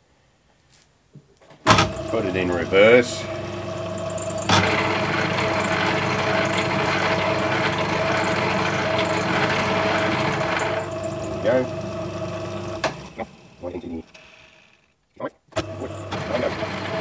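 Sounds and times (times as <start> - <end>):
metal lathe humming: 1.8 - 14.9, 15.6 - 17.0.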